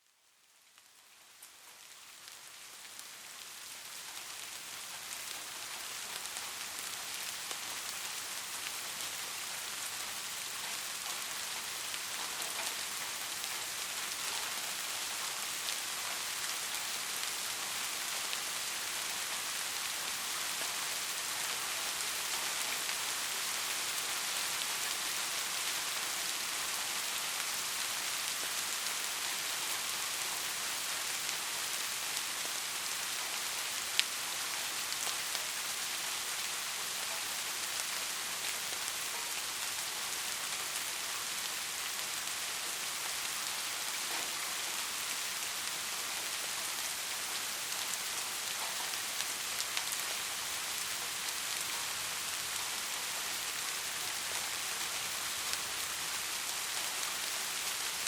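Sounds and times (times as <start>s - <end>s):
soft rain falling: 0.0s - 58.0s.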